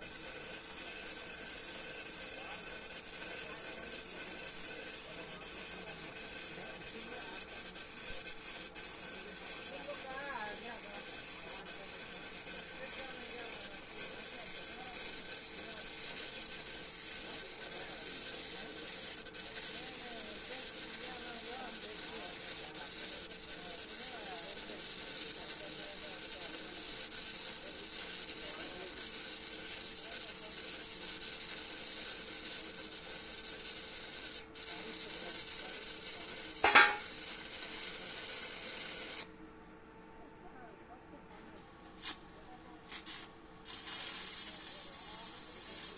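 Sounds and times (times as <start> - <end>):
welding arc hissing: 0.0 - 39.3, 41.9 - 42.2, 42.8 - 45.9.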